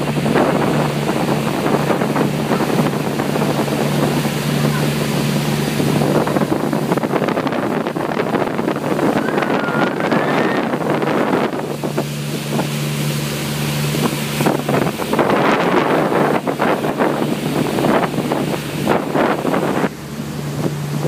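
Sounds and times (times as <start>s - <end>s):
ferry engine hum: 0.0s - 21.0s
rush of water from wake: 0.0s - 21.0s
wind on microphone: 0.0s - 21.0s.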